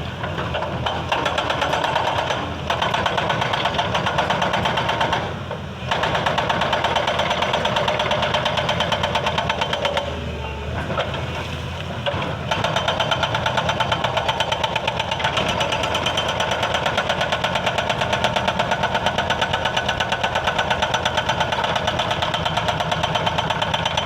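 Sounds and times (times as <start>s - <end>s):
diesel engine running: 0.0s - 24.0s
hydraulic breaker hammering: 0.2s - 10.3s, 12.1s - 24.0s.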